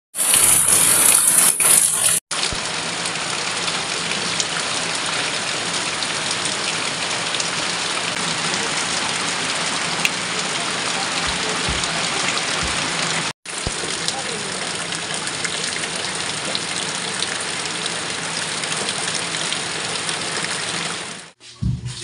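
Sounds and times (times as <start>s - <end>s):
heavy rain pouring: 0.2s - 21.4s
water streaming off a roof: 0.2s - 21.4s.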